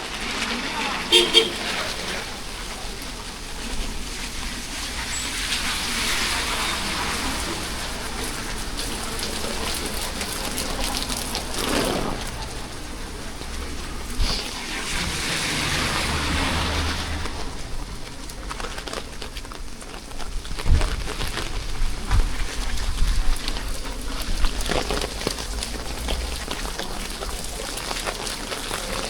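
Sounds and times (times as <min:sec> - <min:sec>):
rain falling on street: 0:00.0 - 0:29.0
vehicles passing on wet road: 0:00.0 - 0:29.0.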